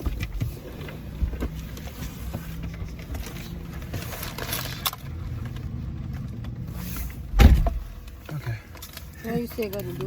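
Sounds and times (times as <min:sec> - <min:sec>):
car cabin road rumble: 0:00.0 - 0:10.0.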